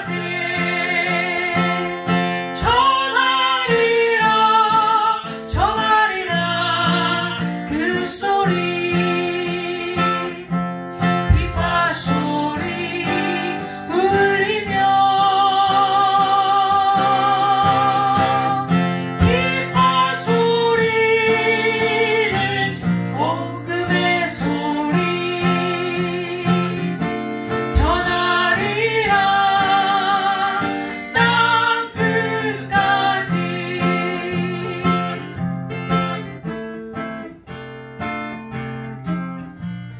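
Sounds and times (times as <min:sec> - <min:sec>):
man singing: 0:00.0 - 0:02.0, 0:02.6 - 0:26.9, 0:27.7 - 0:35.3
woman singing with vibrato: 0:00.0 - 0:35.5
acoustic guitar chords: 0:00.0 - 0:39.9.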